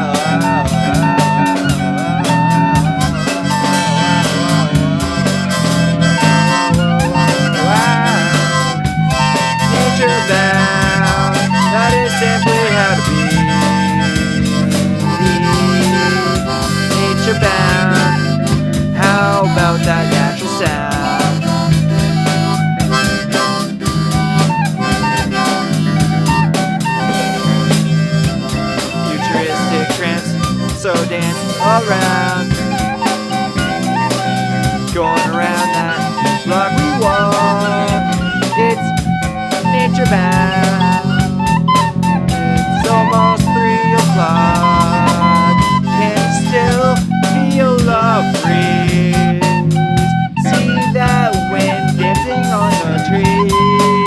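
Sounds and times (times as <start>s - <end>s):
bass: 0.0s - 54.0s
guitar: 0.0s - 54.0s
harmonica melody: 0.0s - 54.0s
steady drum beat: 0.0s - 54.0s.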